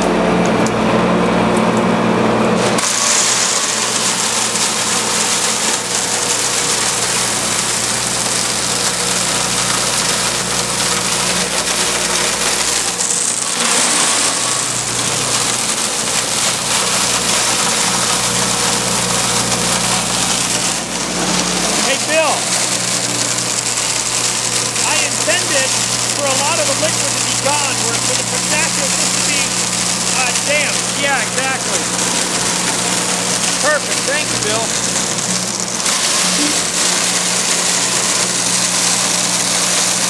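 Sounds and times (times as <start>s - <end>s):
shredder grinding nuts: 0.0s - 40.0s
shredder motor humming: 0.0s - 40.0s.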